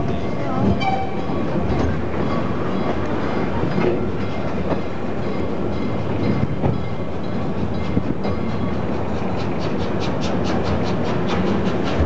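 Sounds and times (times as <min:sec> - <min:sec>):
train running gear rumble: 0:00.0 - 0:12.0.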